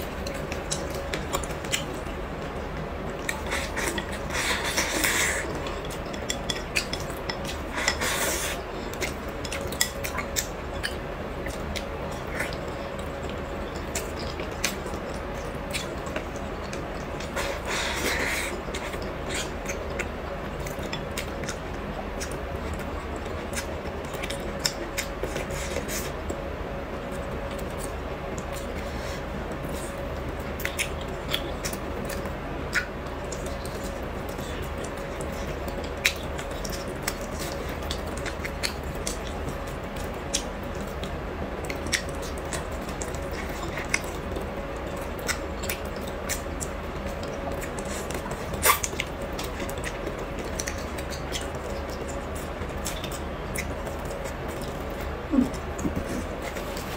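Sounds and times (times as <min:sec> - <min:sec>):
wet chewing: 0:00.0 - 0:26.4, 0:27.0 - 0:56.9
steady hum: 0:00.0 - 0:56.9.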